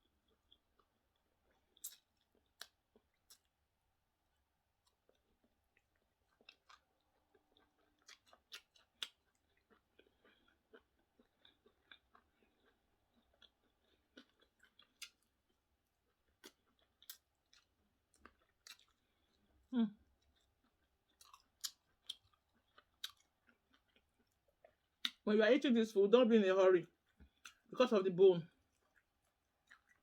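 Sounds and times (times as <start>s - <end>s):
faint close-up chewing: 0.0s - 25.2s, 26.8s - 27.8s, 28.4s - 30.0s.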